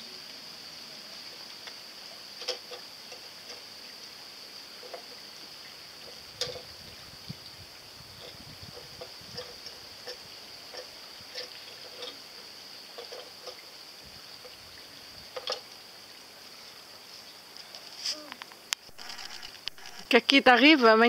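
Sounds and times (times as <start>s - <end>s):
steady high-pitched hiss: 0.0s - 21.0s.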